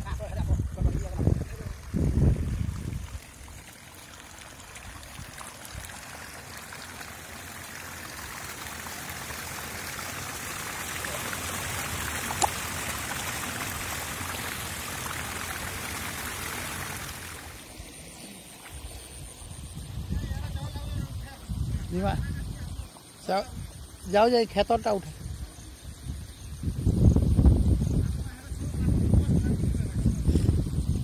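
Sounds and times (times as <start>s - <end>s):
water streaming and trickling: 0.0s - 31.0s.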